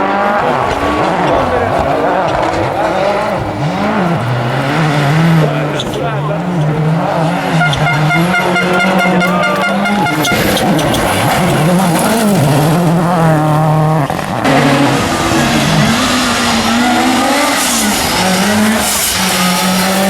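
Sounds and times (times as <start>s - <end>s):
rally car engines revving: 0.0s - 20.0s.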